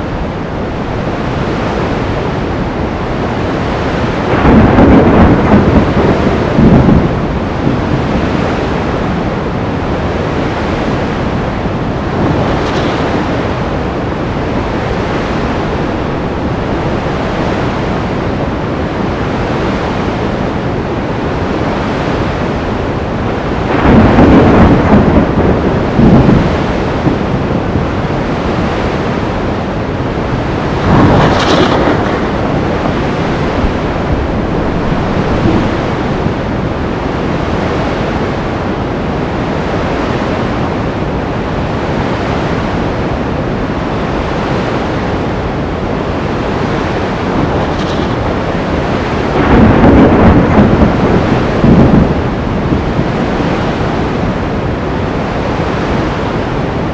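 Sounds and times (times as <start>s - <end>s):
thunder: 0.0s - 20.1s, 22.1s - 38.7s, 46.0s - 56.4s
surf roaring: 0.0s - 56.9s
waves crashing: 0.0s - 56.9s
wind: 0.0s - 56.9s.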